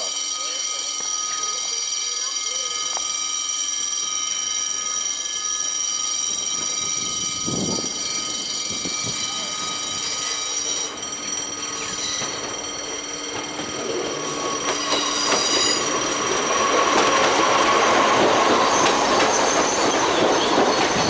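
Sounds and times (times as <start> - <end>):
steady high ringing tones: 0.0 - 21.0
train running on track: 0.0 - 21.0.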